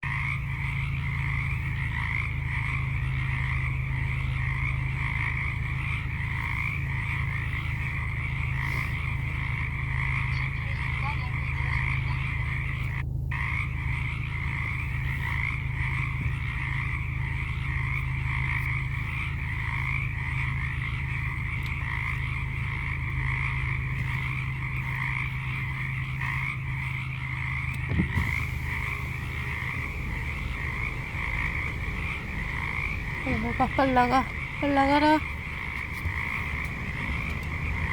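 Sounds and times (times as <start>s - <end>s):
steady low hum: 0.0s - 37.9s
tree frog rattling croak: 0.0s - 37.9s.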